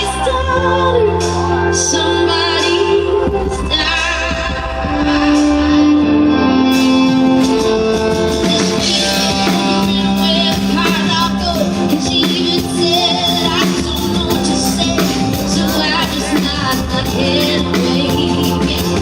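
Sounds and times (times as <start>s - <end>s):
country band backing: 0.0s - 19.0s
woman singing: 0.0s - 19.0s.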